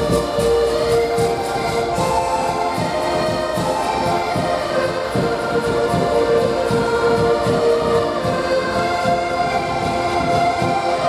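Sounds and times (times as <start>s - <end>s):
button accordions playing chords: 0.0s - 11.0s.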